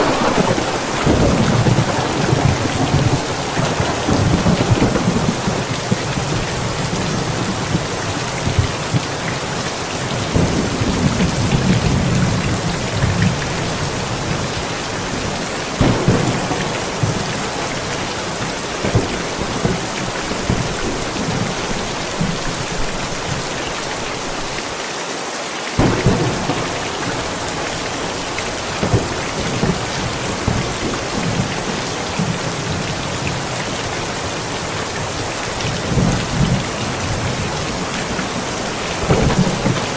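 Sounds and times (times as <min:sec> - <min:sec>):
thunder rumbling: 0:00.0 - 0:24.5, 0:25.8 - 0:39.9
steady rain falling: 0:00.0 - 0:39.9.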